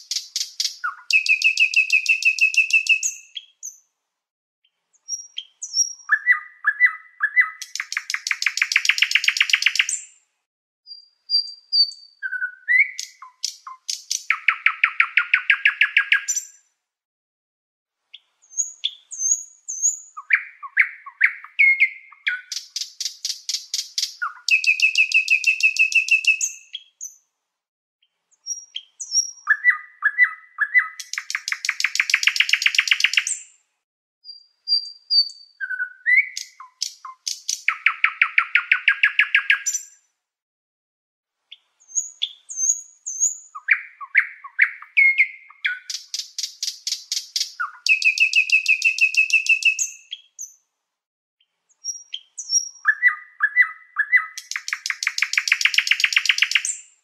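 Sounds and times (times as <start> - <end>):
canary singing trills: 0.0 - 3.8, 5.0 - 10.0, 10.9 - 16.6, 18.1 - 27.2, 28.4 - 33.5, 34.2 - 40.0, 41.5 - 50.6, 51.7 - 57.0.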